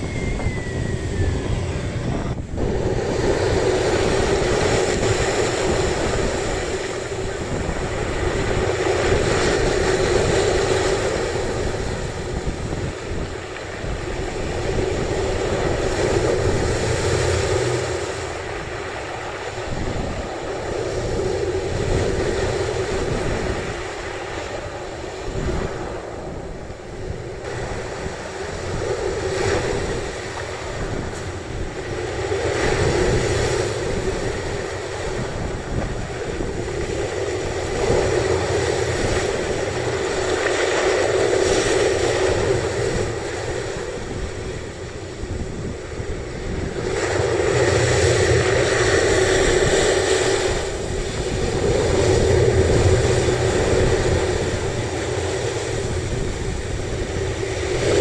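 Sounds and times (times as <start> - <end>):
sea surf washing ashore: 0.0 - 58.0
wind buffeting microphone: 0.0 - 58.0.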